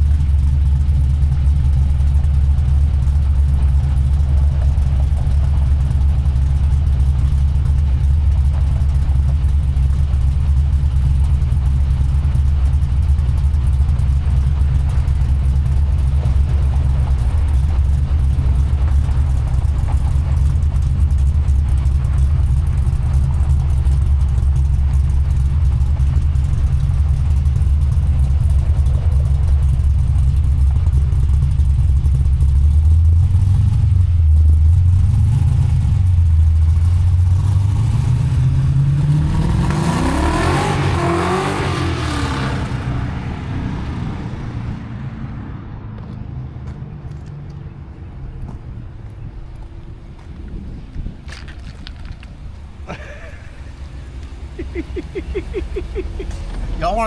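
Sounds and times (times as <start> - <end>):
vehicle engine low rumble: 0.0 - 57.0.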